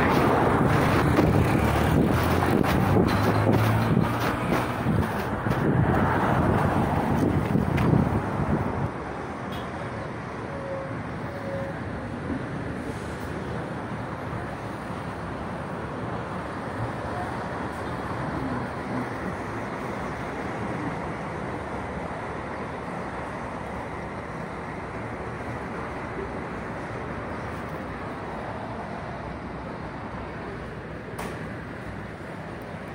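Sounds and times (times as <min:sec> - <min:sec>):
road traffic hum: 0:00.0 - 0:32.9.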